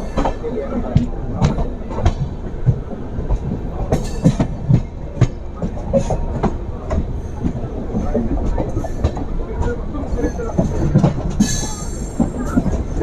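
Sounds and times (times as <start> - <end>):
train coach rumble: 0.0 - 13.0
wheels clacking over rail joints: 0.0 - 13.0.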